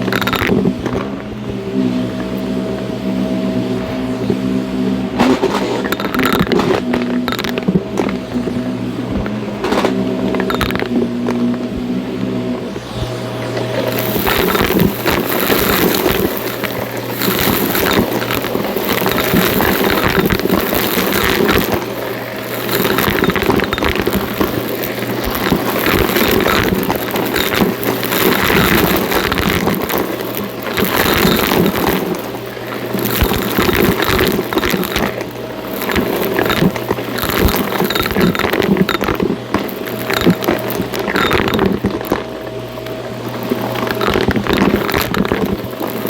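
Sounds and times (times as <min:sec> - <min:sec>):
debris crackling through vacuum: 0:00.0 - 0:46.0
vacuum cleaner motor hum: 0:00.0 - 0:46.0.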